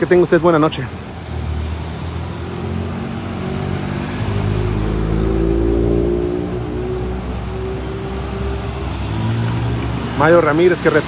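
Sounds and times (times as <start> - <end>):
cars driving slowly past: 0.0 - 11.0.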